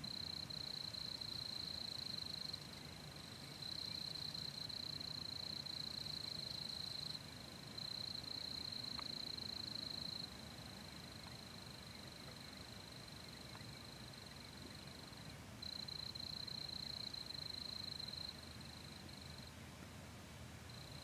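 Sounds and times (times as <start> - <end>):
insects trilling: 0.0 - 19.5, 20.7 - 21.0.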